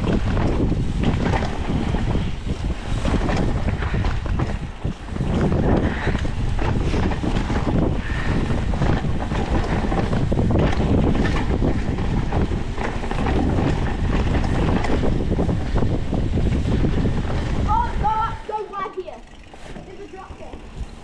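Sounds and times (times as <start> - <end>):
bike rattling and knocking: 0.0 - 21.0
tyres rumbling on dirt: 0.0 - 21.0
wind buffeting microphone: 0.0 - 21.0.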